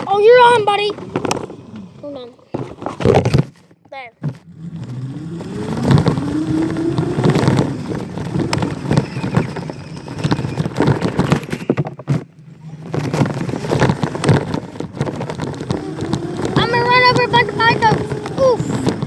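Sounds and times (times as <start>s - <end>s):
bike rattling over rough ground: 0.0s - 19.0s
dirt bike motor whining: 0.0s - 19.0s.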